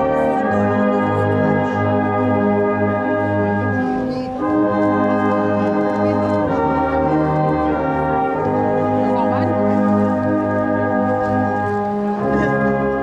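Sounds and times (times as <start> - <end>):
brass band playing held chords: 0.0 - 13.0.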